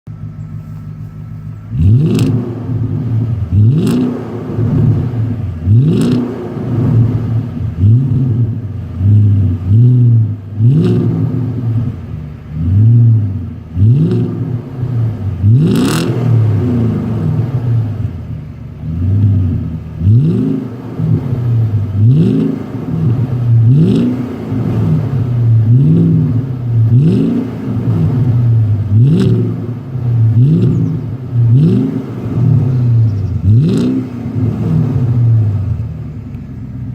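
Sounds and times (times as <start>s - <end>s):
car engine revving: 0.0s - 36.9s
exhaust crack: 0.0s - 36.9s.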